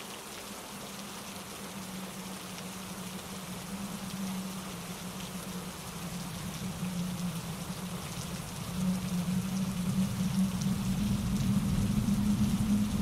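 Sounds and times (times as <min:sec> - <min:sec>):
steady rain: 0:00.0 - 0:13.0
stream rushing over rocks: 0:00.0 - 0:13.0.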